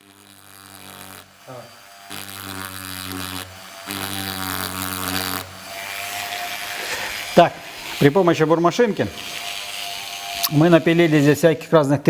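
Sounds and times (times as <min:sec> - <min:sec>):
small electric drill whining: 0:00.0 - 0:11.8
drill bit grinding into plaster: 0:00.0 - 0:12.0.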